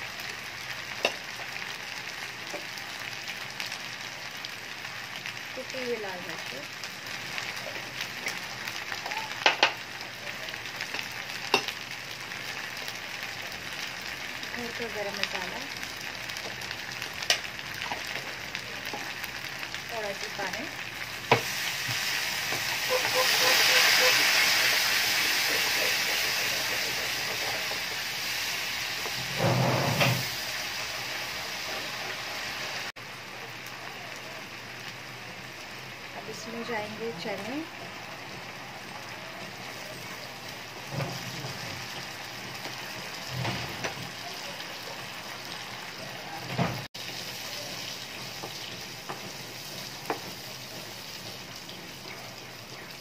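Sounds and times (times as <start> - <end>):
onions sizzling in oil: 0.0 - 53.0.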